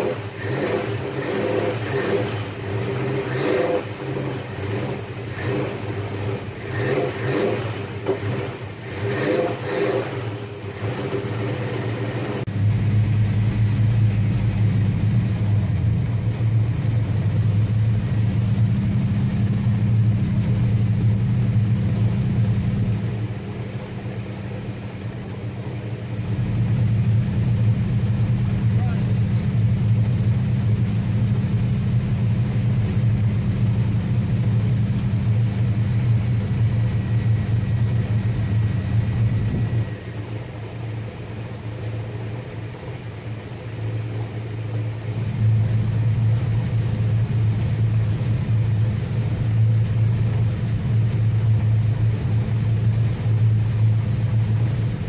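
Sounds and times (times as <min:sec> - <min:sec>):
car engine running unevenly: 0:00.0 - 0:55.0.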